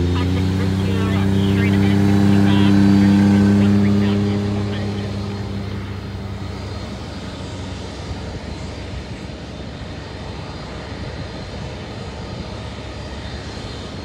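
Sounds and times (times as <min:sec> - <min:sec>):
faint high engine whine: 0:00.0 - 0:14.0
jet engines at takeoff power: 0:00.0 - 0:14.0.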